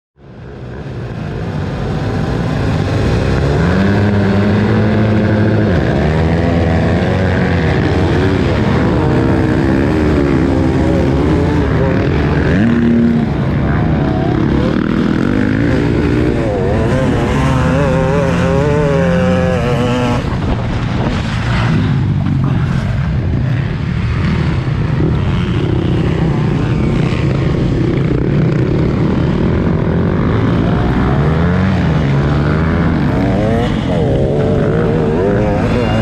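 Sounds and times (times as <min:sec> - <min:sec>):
dirt-bike engines revving: 0:00.2 - 0:36.0.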